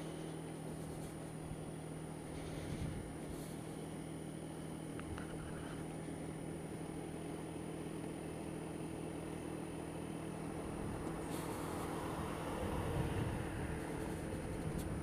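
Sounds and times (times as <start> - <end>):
road noise: 0.0 - 15.0
scooter engine humming: 0.0 - 15.0.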